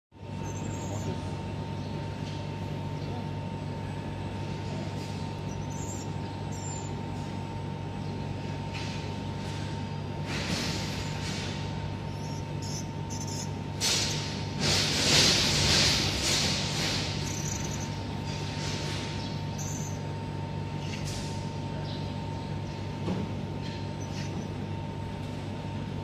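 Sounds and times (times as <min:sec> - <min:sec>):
machine hum with whine: 0:00.1 - 0:26.0.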